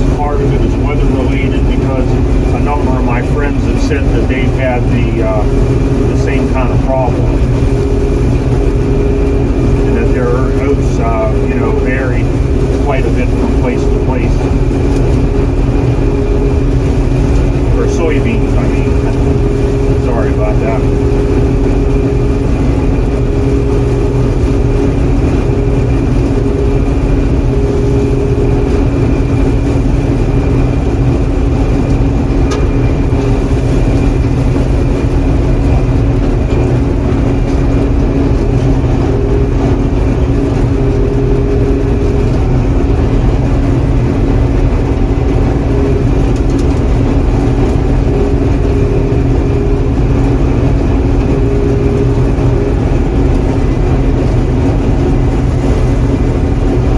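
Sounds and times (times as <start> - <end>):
combine harvester engine drone: 0.0 - 56.9.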